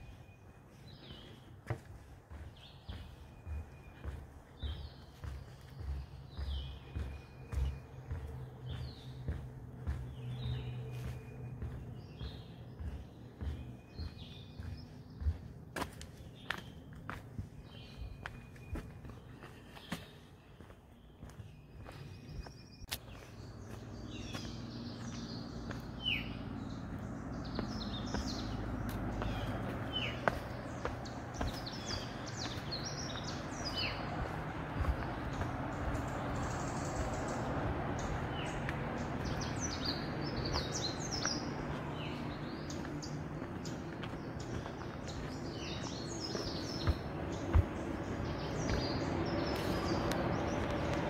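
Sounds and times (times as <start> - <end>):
highway truck traffic rumble: 0.0 - 51.0
songbirds chirping: 0.0 - 51.0.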